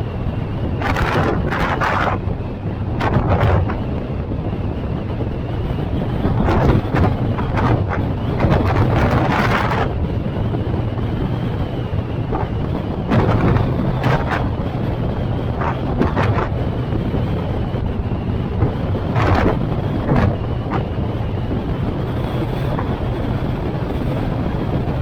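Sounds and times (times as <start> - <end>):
car engine and tyre rumble: 0.0 - 25.0
wind buffeting microphone: 0.0 - 25.0.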